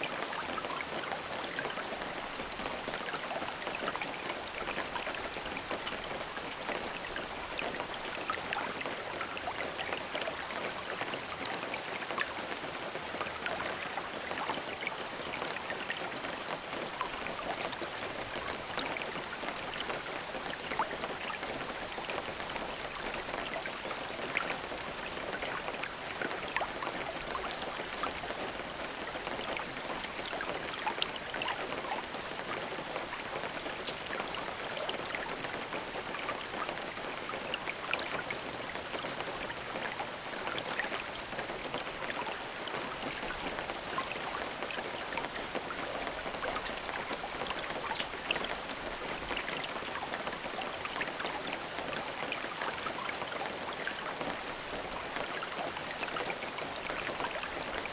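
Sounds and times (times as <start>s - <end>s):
rain pattering on a surface: 0.0s - 57.9s.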